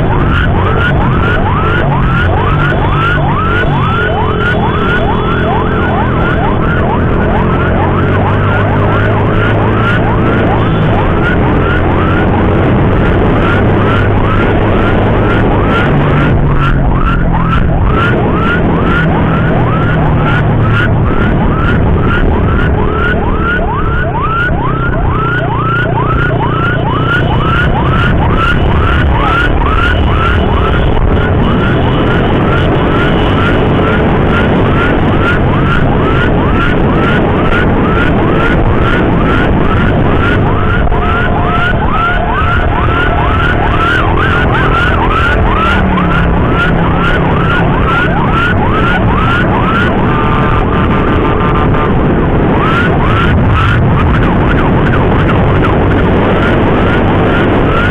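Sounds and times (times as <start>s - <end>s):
electronic siren yelping: 0.0s - 57.9s
motorcycle engine: 0.0s - 57.9s
wind noise: 0.0s - 57.9s.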